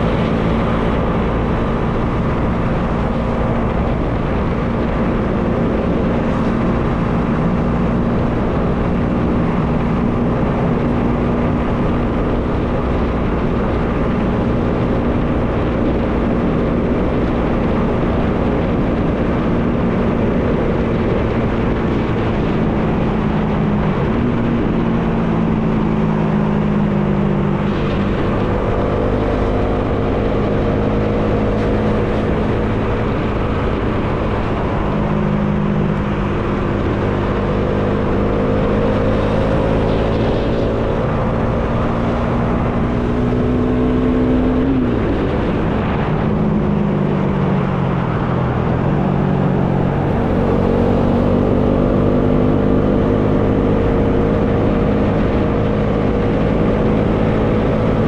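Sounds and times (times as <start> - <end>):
heavy wind noise: 0.0 - 58.0
motorcycle engine running: 0.0 - 58.0.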